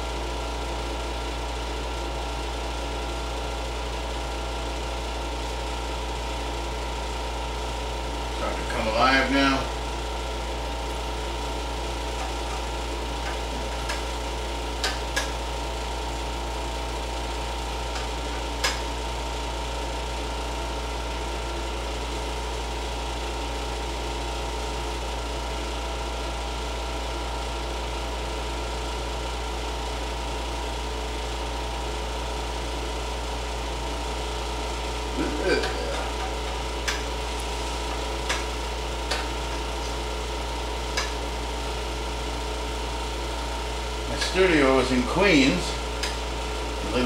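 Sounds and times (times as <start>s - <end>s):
air conditioner humming: 0.0s - 47.0s.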